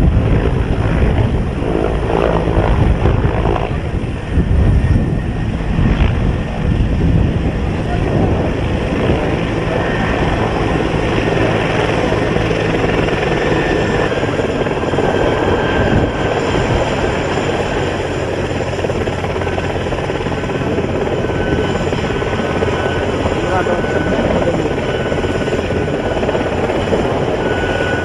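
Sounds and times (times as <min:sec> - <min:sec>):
helicopter rotor and turbine: 0:00.0 - 0:28.0.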